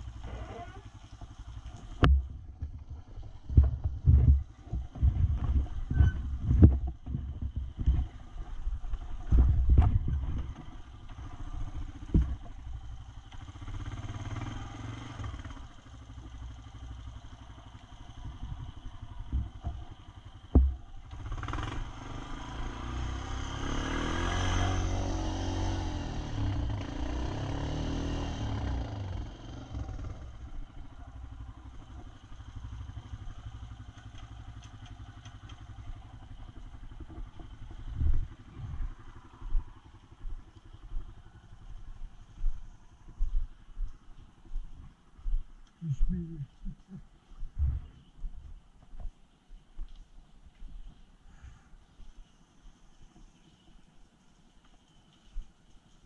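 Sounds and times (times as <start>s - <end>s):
knocks and clatter over rough ground: 0.0s - 22.3s, 26.2s - 51.2s, 52.0s - 56.0s
atv engine running: 0.0s - 50.0s.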